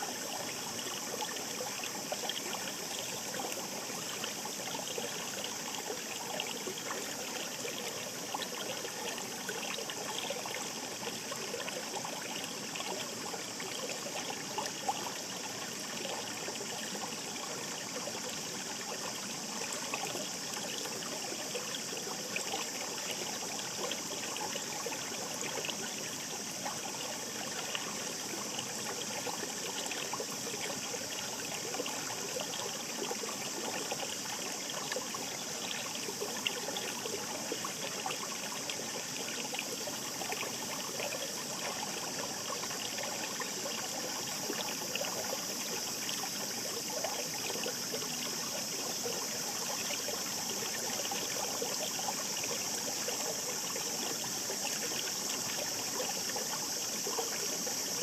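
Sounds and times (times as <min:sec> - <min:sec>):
shallow stream babbling: 0:00.0 - 0:58.0.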